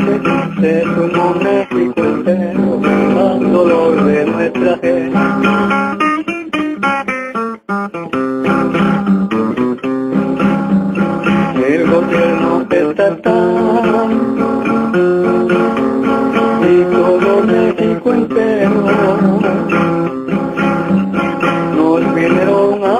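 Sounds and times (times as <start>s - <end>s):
strummed acoustic guitar music: 0.0s - 22.9s.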